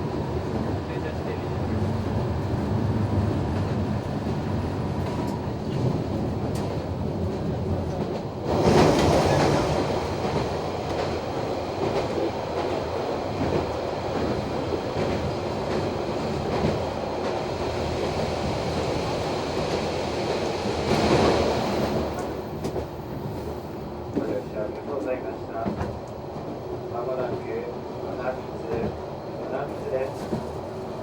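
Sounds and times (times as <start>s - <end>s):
railcar wheels on rails: 0.0s - 31.0s.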